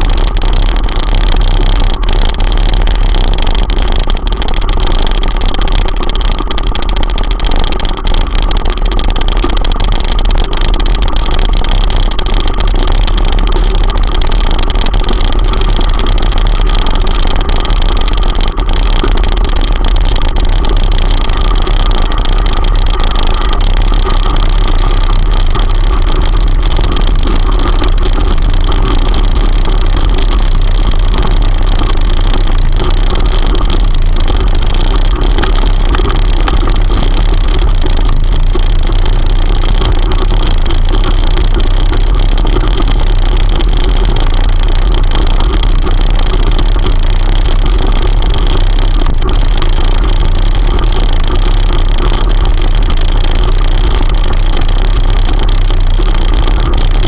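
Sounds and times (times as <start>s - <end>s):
bicycle tyre rumble on gravel: 0.0s - 57.0s.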